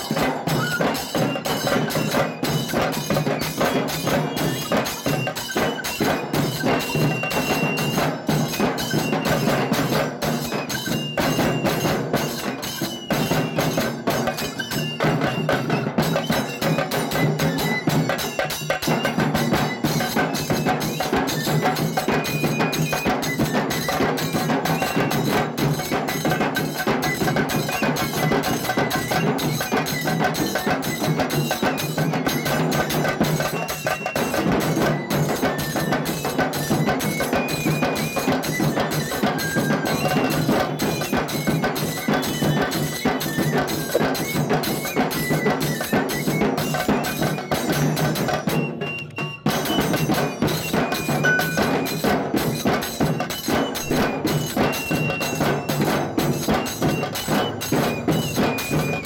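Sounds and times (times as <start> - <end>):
bamboo flute folk melody: 0.0 - 59.0
drum beats: 0.0 - 59.0
rapid drum strokes: 0.0 - 59.0.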